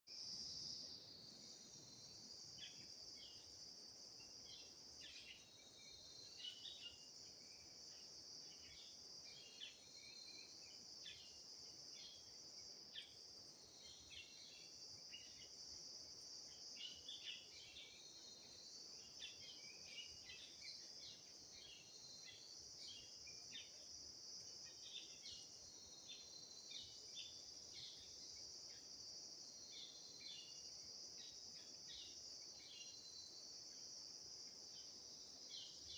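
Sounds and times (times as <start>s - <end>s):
crickets chirping: 0.1s - 35.9s.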